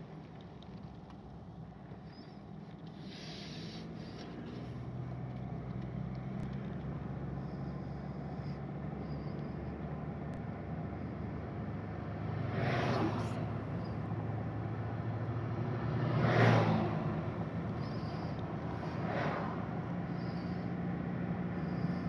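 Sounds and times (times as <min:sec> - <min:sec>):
car engine and tyre hum: 0:00.0 - 0:22.0.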